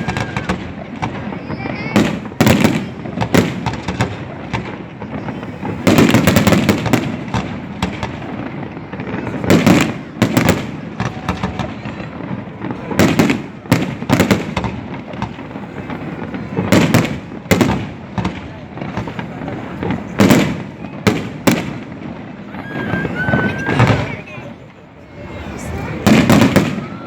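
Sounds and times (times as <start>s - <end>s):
fireworks banging: 0.0s - 27.0s.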